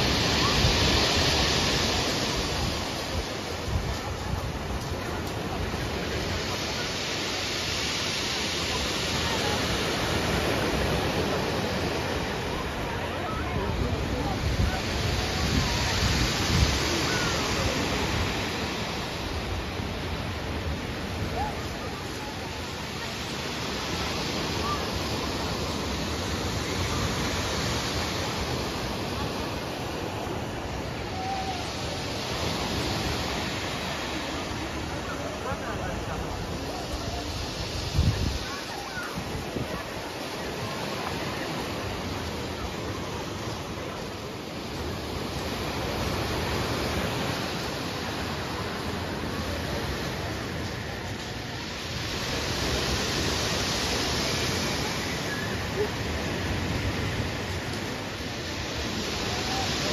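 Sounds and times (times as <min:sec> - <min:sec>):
sea surf breaking on beach: 0:00.0 - 0:59.9.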